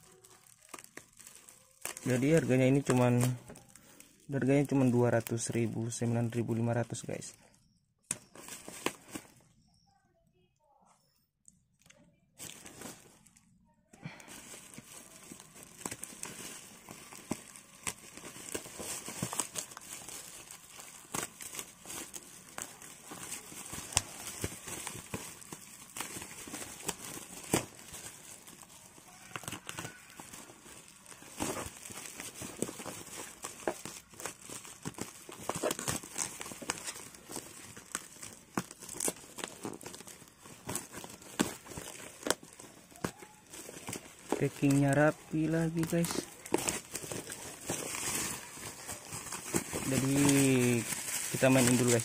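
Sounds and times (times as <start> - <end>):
plastic wrap crinkling: 0.0 - 7.4, 8.1 - 9.5, 11.4 - 52.0.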